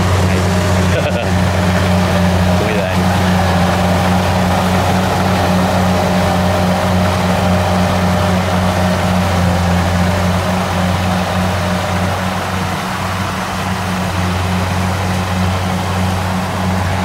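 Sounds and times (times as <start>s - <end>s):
diesel engine droning: 0.0s - 17.0s
machinery noise: 0.0s - 17.0s.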